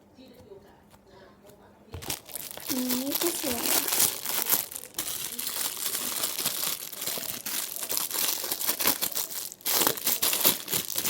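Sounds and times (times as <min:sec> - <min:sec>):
plastic packaging crinkling: 0:01.9 - 0:11.0.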